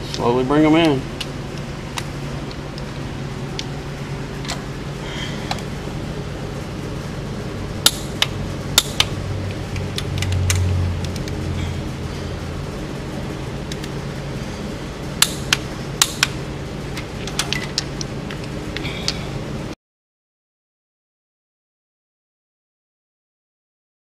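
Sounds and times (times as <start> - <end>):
fan hum: 0.0 - 19.8
low hum: 0.0 - 19.8.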